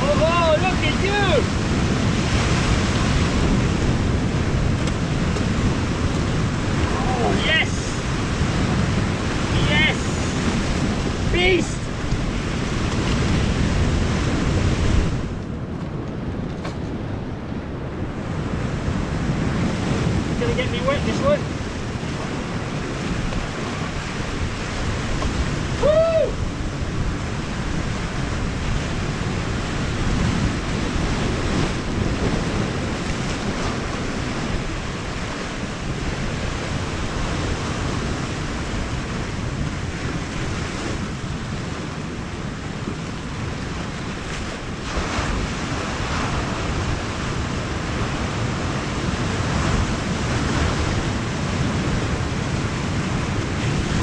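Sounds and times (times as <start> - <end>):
sea surf washing: 0.0 - 54.0
wind buffeting microphone: 0.0 - 54.0.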